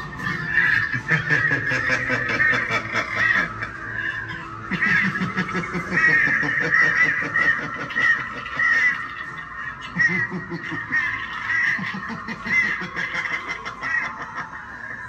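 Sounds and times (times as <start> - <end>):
duck quacking: 0.0 - 14.6.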